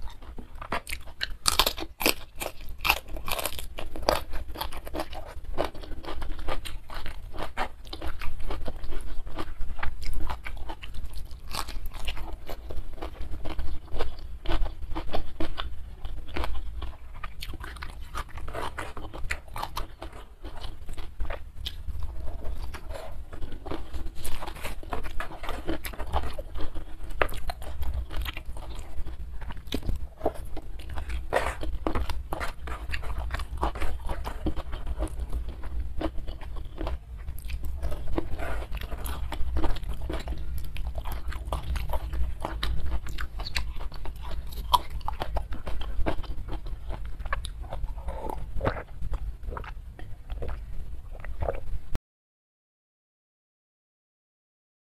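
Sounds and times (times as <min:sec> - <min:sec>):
chewing with wet mouth clicks: 0:00.0 - 0:51.7.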